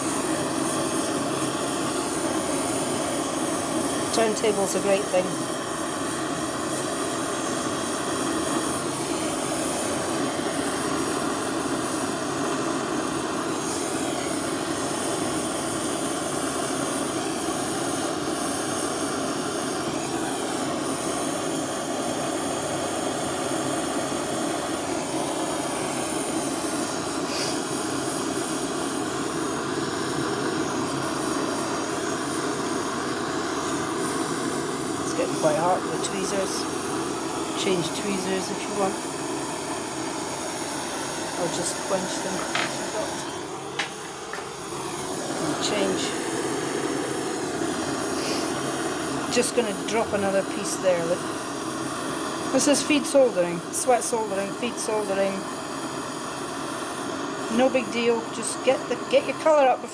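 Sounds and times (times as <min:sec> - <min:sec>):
blowtorch flame roaring: 0:00.0 - 0:59.9.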